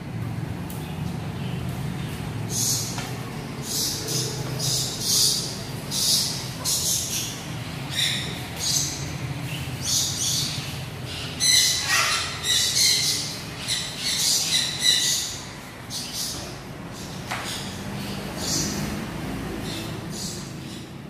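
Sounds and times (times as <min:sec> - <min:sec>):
parrots chirping and squawking: 0:01.6 - 0:21.0.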